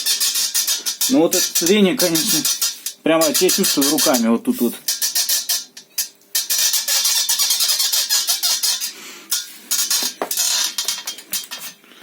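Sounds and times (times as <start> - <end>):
steel tube frame creaking: 0.0 - 4.3, 4.9 - 12.0.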